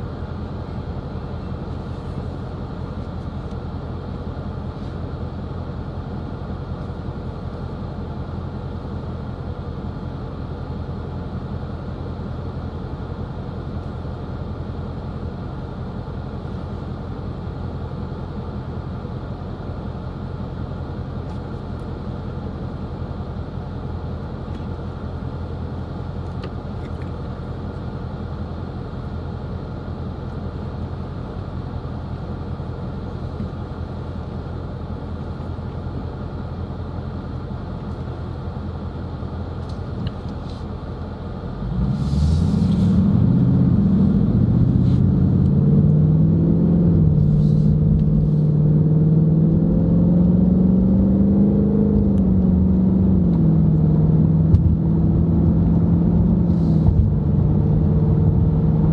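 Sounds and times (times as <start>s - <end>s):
car road and engine noise: 0.0s - 58.9s.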